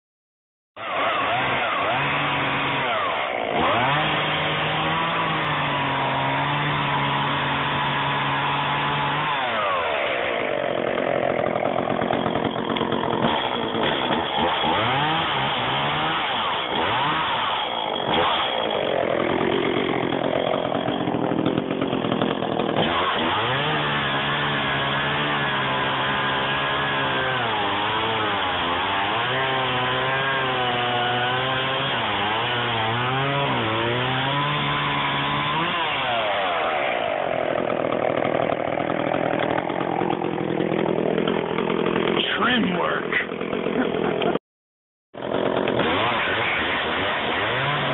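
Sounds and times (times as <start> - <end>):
chainsaw cutting wood: 0.8 - 44.4, 45.2 - 47.9.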